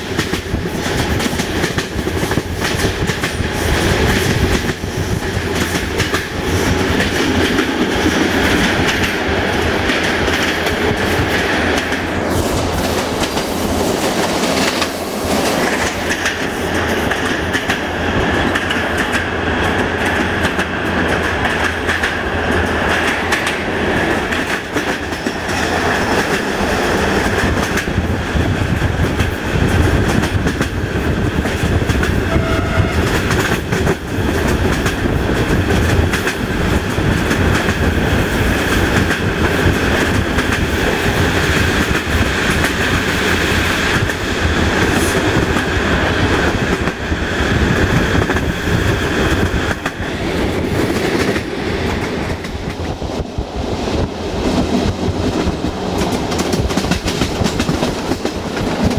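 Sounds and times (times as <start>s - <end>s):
train wheels rumbling on rail: 0.0s - 58.9s
wheels clickety-clack over rail joints: 0.0s - 58.9s.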